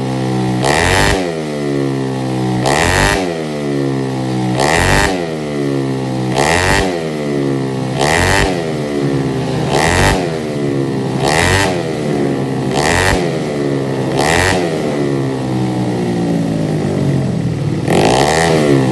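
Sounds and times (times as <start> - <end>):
two-stroke motorcycle engine revving: 0.0 - 18.9.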